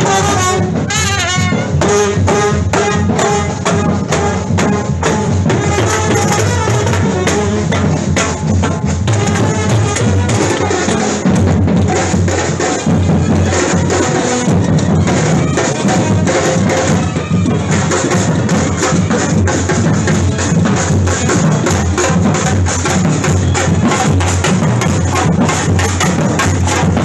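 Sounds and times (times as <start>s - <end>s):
drum band playing: 0.0s - 27.0s.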